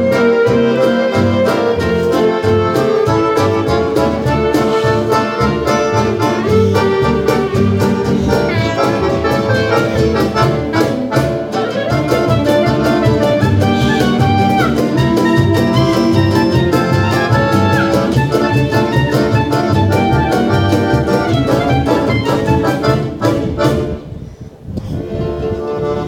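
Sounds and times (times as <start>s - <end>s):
cajon beat: 0.0s - 24.1s
accordion melody: 0.0s - 24.2s, 25.0s - 26.0s
acoustic guitar: 0.0s - 24.2s
plucked double bass: 0.0s - 24.2s.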